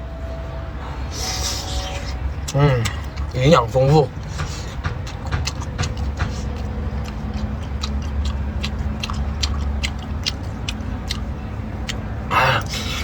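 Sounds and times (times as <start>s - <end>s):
man chewing with clicks and smacks: 1.9s - 13.0s.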